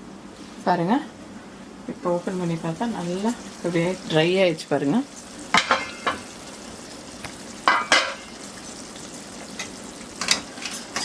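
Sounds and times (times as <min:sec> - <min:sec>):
liver sizzling in a pan: 0:02.0 - 0:11.0.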